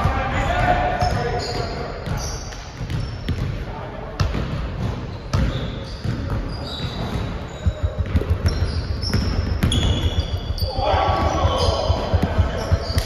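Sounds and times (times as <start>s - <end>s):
basketballs bouncing on wooden floor: 0.0s - 13.0s
sneaker squeaks: 0.9s - 3.5s, 4.8s - 13.0s.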